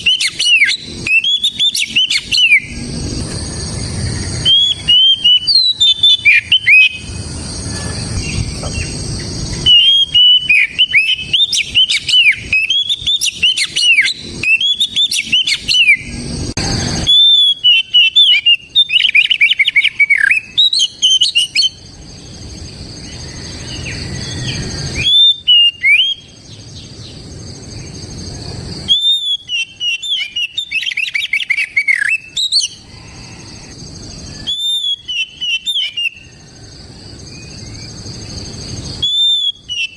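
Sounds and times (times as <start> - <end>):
bird singing whistled notes: 0.0 - 28.2, 28.8 - 39.9.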